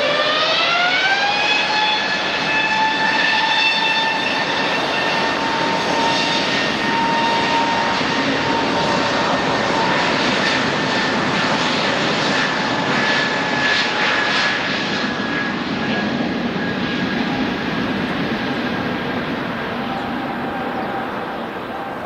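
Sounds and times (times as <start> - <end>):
jet engines roaring with whine: 0.0 - 22.0.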